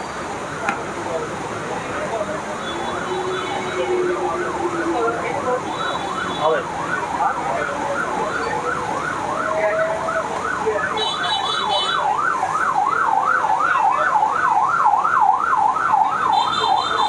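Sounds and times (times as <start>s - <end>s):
electronic siren wailing: 2.6s - 17.0s.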